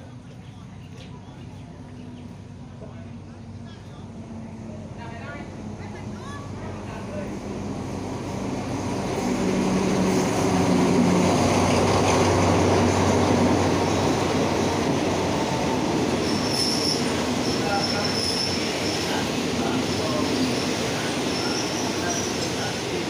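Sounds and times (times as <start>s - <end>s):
train coaches rumbling on rails: 0.0s - 23.0s.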